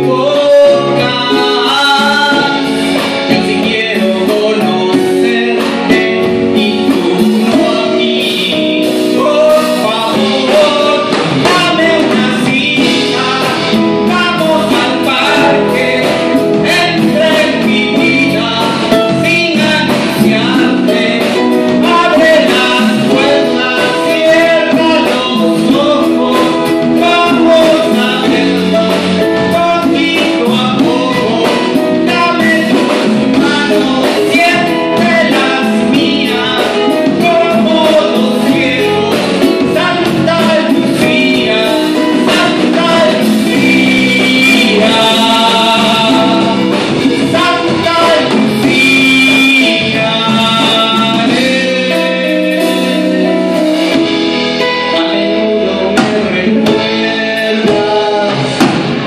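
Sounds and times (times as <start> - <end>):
guitar accompaniment: 0.0 - 59.0
man singing into microphone: 0.0 - 59.0.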